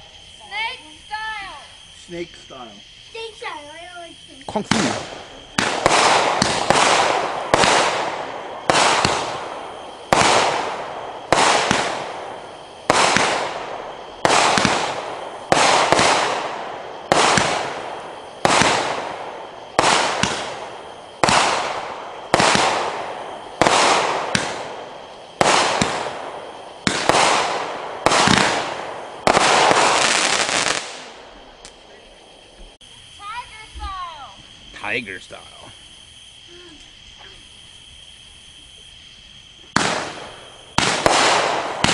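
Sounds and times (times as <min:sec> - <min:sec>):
firework shots with hissing tail: 0:00.0 - 0:41.9.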